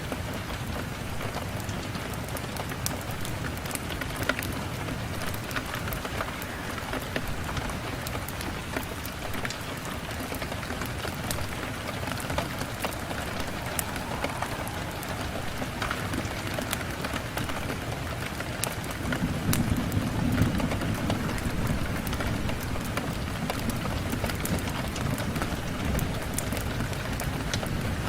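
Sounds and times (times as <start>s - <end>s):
rain on a window pane: 0.0s - 28.0s.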